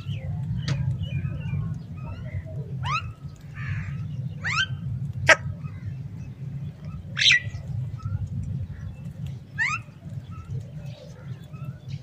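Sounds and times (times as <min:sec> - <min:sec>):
crows calling: 0:00.0 - 0:12.0
steady low hum: 0:00.0 - 0:12.0.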